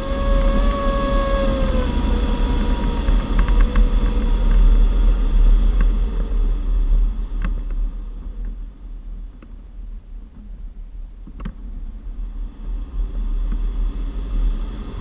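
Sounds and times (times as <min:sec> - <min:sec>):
cockpit airflow rumble: 0:00.0 - 0:15.0.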